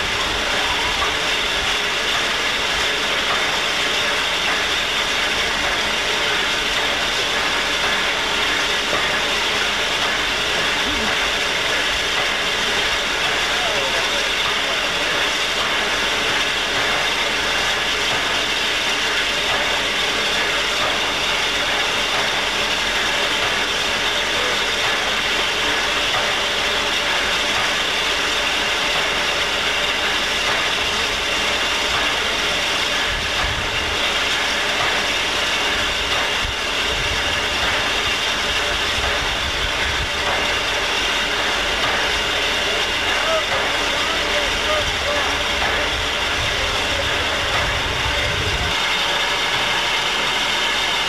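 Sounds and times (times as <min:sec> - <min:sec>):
steam locomotive hissing: 0:00.0 - 0:51.0.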